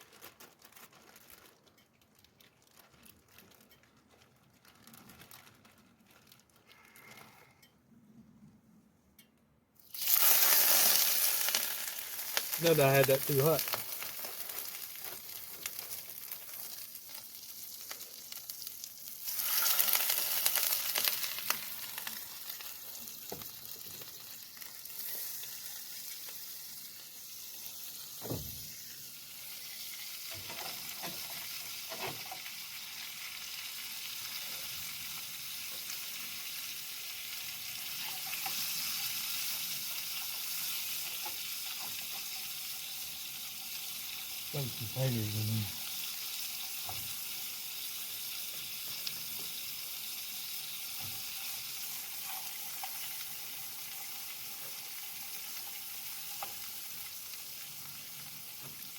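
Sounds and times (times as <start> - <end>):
fish sizzling in a pan: 9.8 - 58.9.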